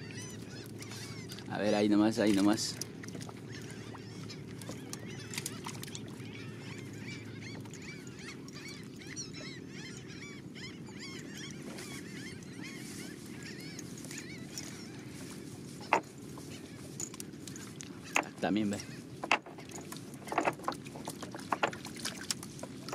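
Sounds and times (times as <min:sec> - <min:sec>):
many birds calling: 0:00.0 - 0:22.9.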